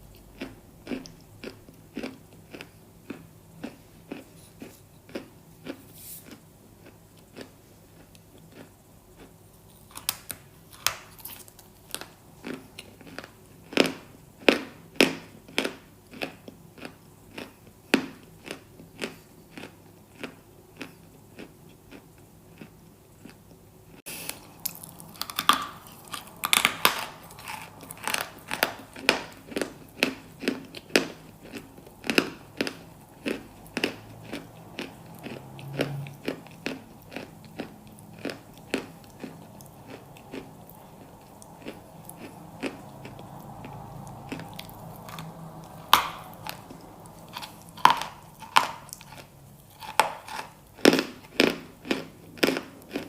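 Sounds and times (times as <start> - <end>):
crunchy food chewing: 0.0 - 53.0.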